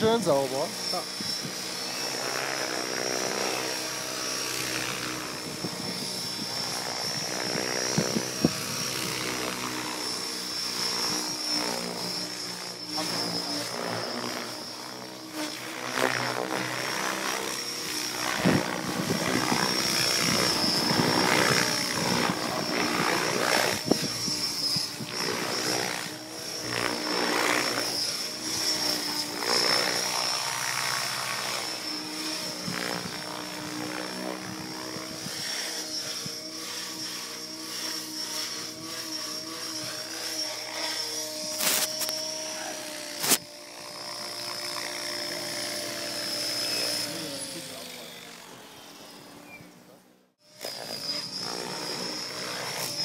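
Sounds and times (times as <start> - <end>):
helicopter rotor noise: 0.0 - 53.0.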